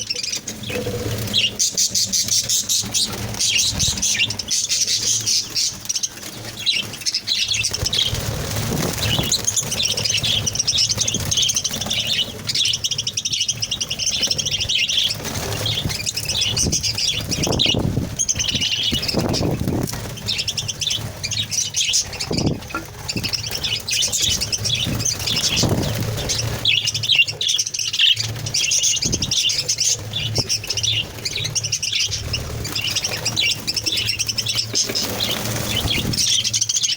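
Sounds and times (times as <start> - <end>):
budgerigars chattering and chirping: 0.0 - 36.9.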